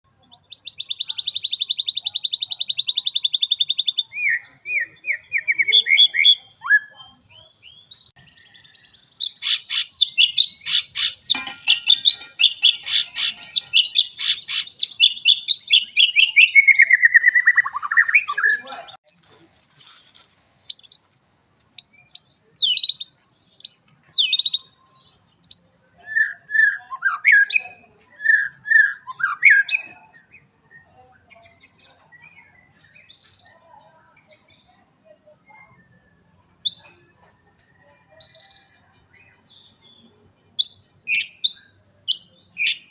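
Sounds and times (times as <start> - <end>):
songbird singing varied song: 0.1 - 19.2, 21.8 - 42.9.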